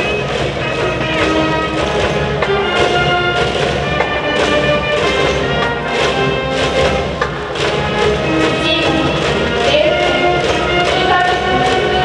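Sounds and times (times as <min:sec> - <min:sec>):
brass band playing: 0:00.0 - 0:12.0
steady drum beat: 0:00.0 - 0:12.0.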